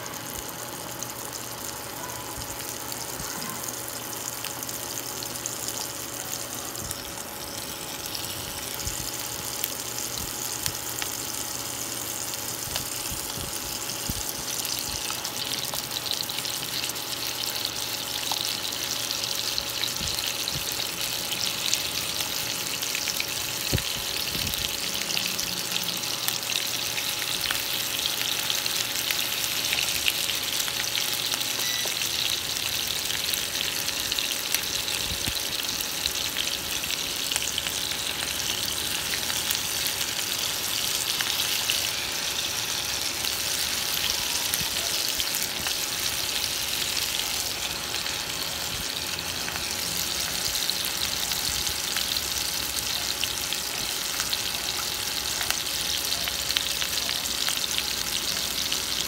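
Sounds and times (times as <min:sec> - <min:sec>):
chicken sizzling in hot oil: 0:00.0 - 0:59.0.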